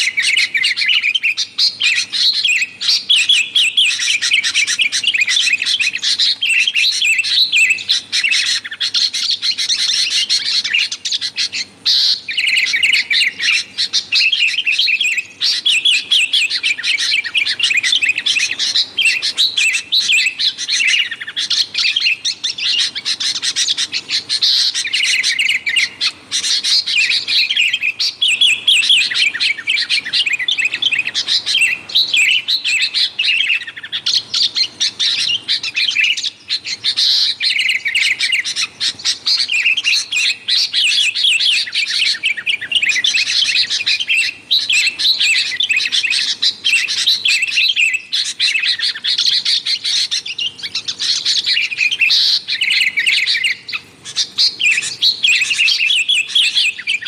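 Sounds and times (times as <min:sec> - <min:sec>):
bulbuls chirping: 0:00.0 - 0:57.0.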